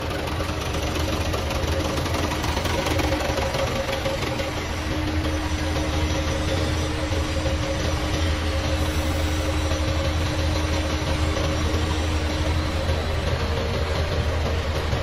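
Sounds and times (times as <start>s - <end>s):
vacuum pumps humming: 0.0s - 15.0s.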